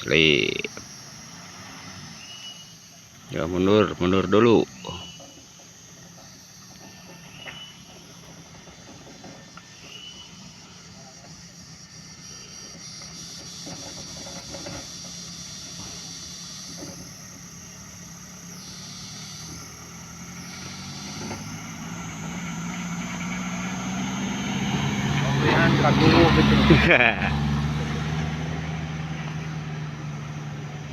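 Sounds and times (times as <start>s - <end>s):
vehicle engine running: 0.0s - 30.9s.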